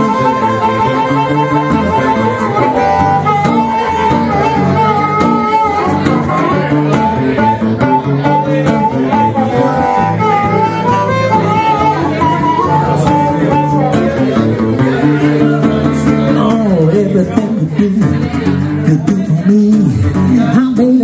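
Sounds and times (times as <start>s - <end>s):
harmonica melody: 0.0s - 17.0s
strummed resonator guitar: 0.0s - 21.0s.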